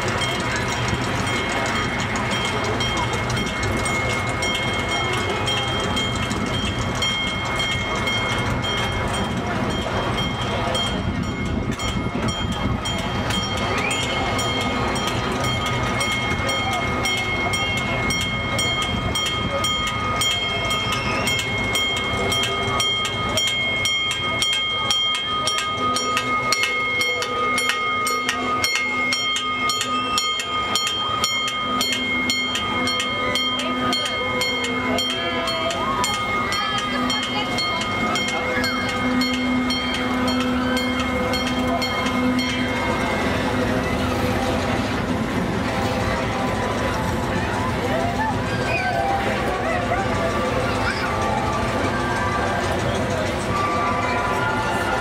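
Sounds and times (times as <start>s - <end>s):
miniature train engine running: 0.0s - 55.0s
wheels clicking: 0.0s - 55.0s.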